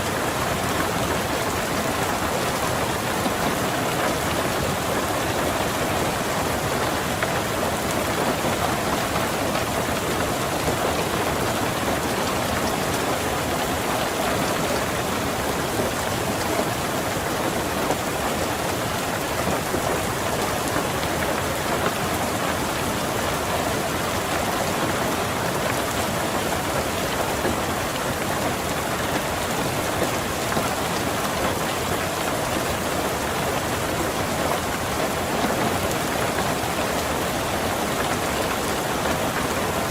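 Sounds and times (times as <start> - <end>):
rain pattering on car roof: 0.0 - 39.9.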